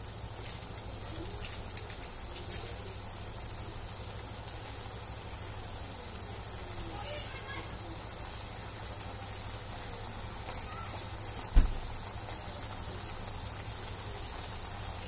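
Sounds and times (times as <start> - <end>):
food sizzling in oil in a wok: 0.0 - 15.0.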